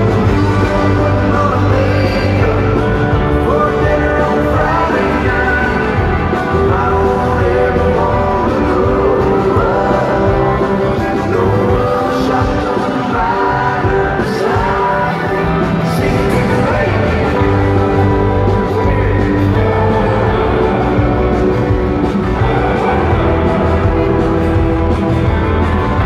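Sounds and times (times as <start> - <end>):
country-rock band playing: 0.0 - 26.0
man singing: 0.0 - 26.0.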